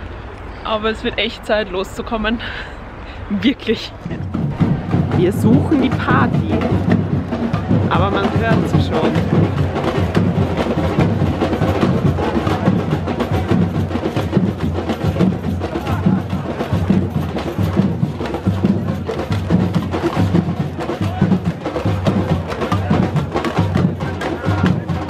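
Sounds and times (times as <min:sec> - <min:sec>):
loud drumming and percussion music: 0:04.0 - 0:25.0.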